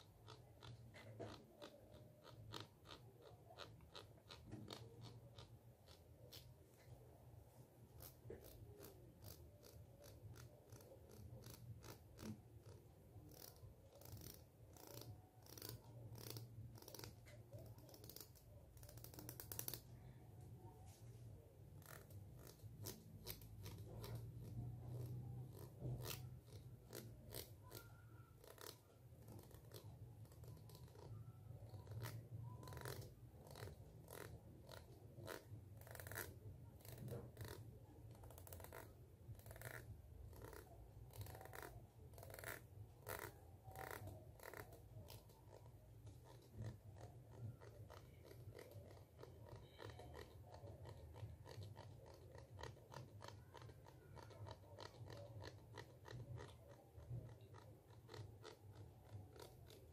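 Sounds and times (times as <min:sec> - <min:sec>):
fingernails flicking comb teeth: 0:07.9 - 0:19.9, 0:21.8 - 0:59.9.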